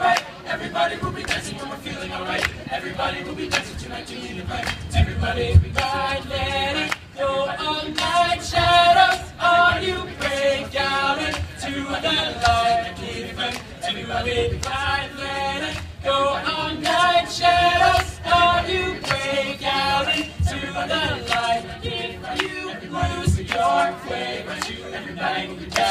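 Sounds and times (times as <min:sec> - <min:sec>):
male a cappella group singing: 0:00.0 - 0:25.9.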